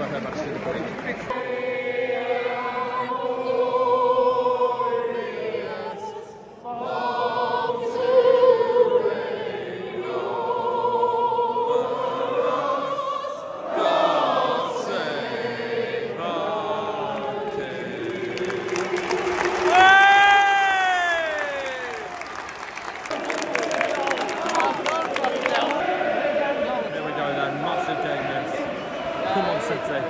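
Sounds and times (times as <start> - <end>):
operatic singing with vibrato: 1.3 - 30.0.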